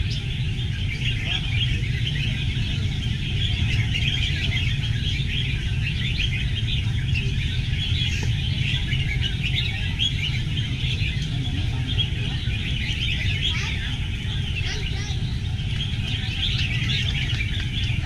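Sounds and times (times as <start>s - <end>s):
chorus of birds chirping: 0.0s - 18.0s
steady low rumble: 0.0s - 18.0s.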